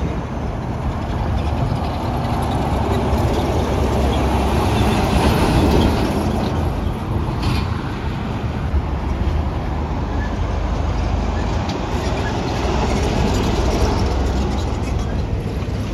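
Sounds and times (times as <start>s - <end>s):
heavy truck engine rumble: 0.0s - 15.9s.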